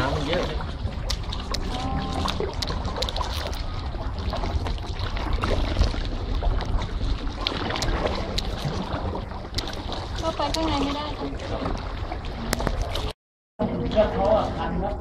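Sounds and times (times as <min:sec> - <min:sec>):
paddle splashes and drips: 0:00.0 - 0:13.2
wind rumble on microphone: 0:00.0 - 0:15.0.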